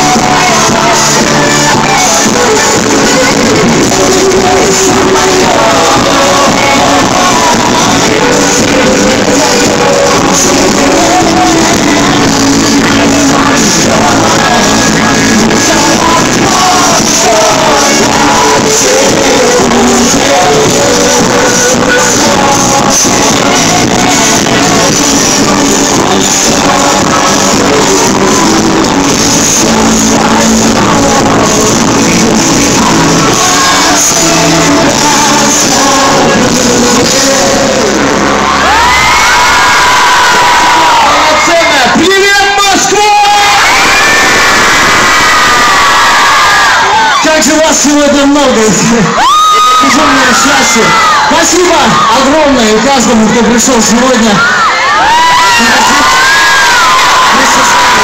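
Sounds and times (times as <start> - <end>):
person singing: 0.0 - 54.4, 55.0 - 58.0
crowd shouting: 0.0 - 58.0
loud pop music on sound system: 0.0 - 58.0.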